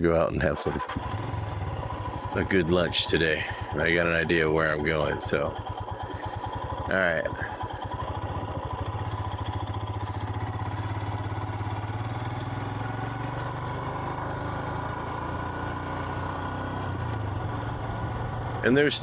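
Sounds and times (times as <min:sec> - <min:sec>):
motorcycle engine running: 0:00.4 - 0:19.0.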